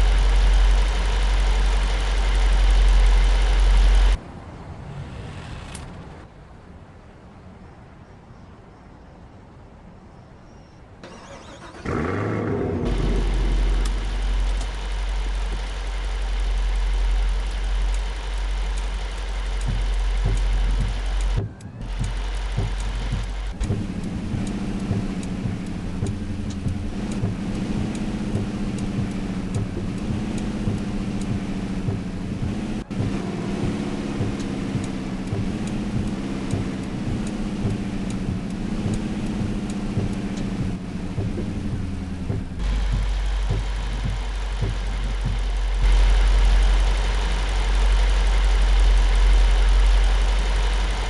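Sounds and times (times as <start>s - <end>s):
pickup engine starting and rumbling: 0.0s - 4.2s, 11.0s - 51.0s.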